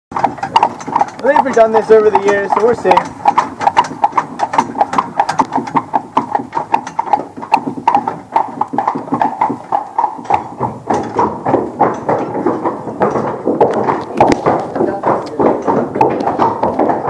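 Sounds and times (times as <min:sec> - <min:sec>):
hooves on wooden planks: 0:00.1 - 0:17.0
horse hooves clip-clopping: 0:00.1 - 0:17.0.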